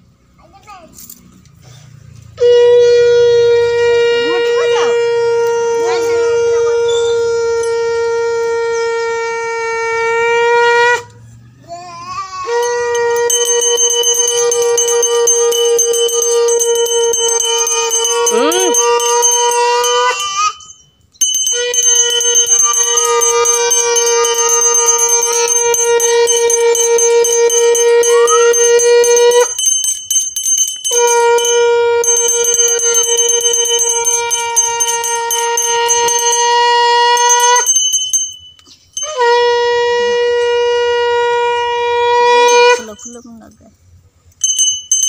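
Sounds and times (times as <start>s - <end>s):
conch shell blasts: 2.3s - 11.2s, 12.4s - 43.2s.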